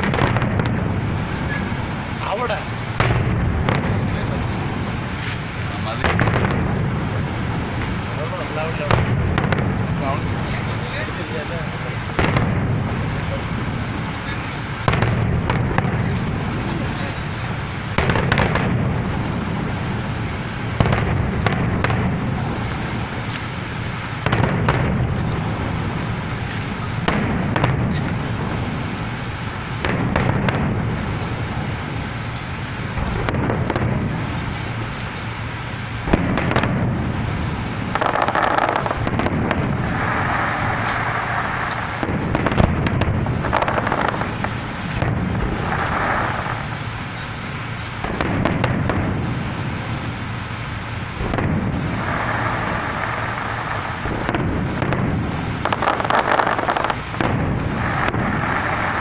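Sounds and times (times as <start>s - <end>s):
fireworks bangs: 0.0s - 59.0s
low rumble: 0.0s - 59.0s.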